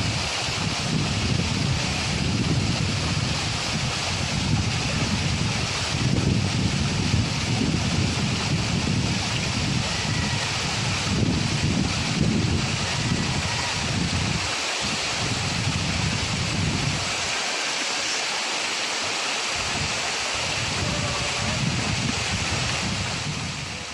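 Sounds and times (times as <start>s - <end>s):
wind buffeting microphone: 0.0s - 17.4s, 19.5s - 23.9s
waterfall rushing hiss: 0.0s - 23.9s.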